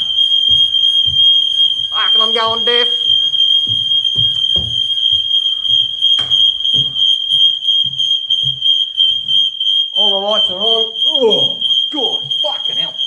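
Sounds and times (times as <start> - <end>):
smoke detector alarm tone: 0.0 - 13.0.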